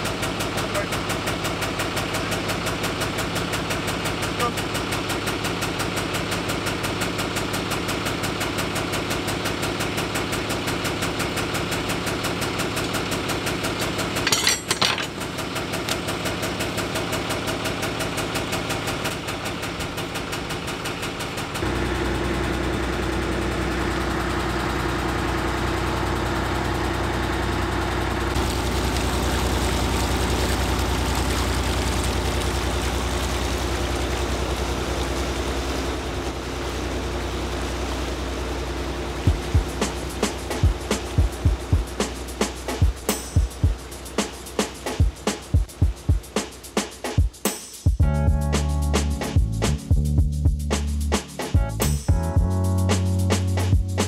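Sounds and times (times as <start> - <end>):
boat engine running: 0.0 - 14.3, 15.1 - 46.4.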